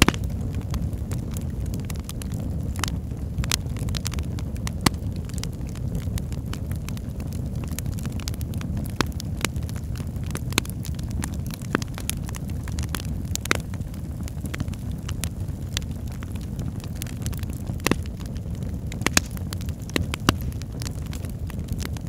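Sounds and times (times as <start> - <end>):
fire popping and snapping: 0.0 - 22.0
fireplace flames rumbling: 0.0 - 22.0.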